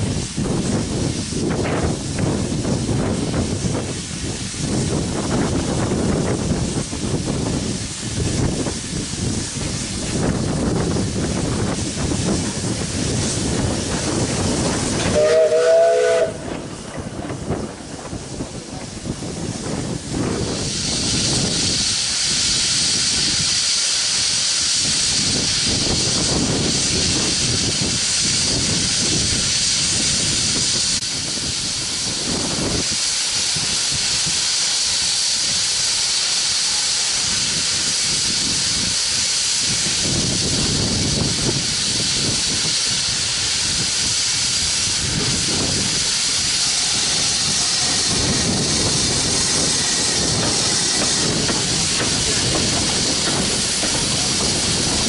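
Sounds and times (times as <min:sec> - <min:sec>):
steam engine slow low beats: 0:00.0 - 0:55.0
steam hissing loudly: 0:00.0 - 0:55.0.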